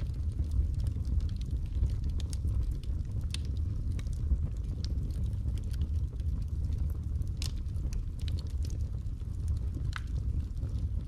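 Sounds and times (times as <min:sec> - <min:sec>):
flames rumbling: 0:00.0 - 0:11.0
logs crackling and popping: 0:00.0 - 0:11.0.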